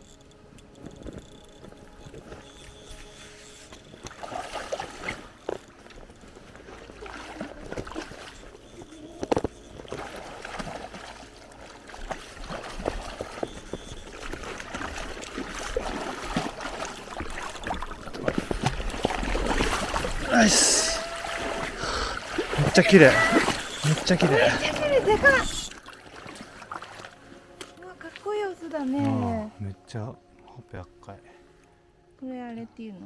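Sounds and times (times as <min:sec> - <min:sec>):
stream water sloshing and gurgling: 0:00.0 - 0:29.5
knocks and small splashes: 0:00.6 - 0:29.2.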